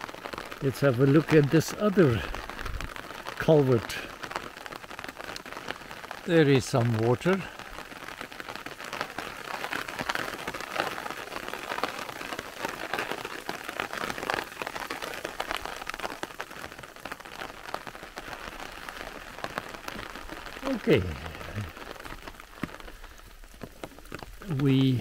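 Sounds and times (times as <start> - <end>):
light rain falling: 0.0 - 25.0.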